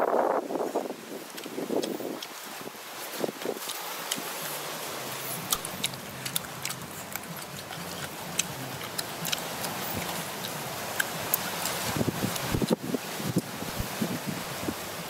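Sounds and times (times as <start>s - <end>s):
steady background hiss: 0.1s - 15.0s.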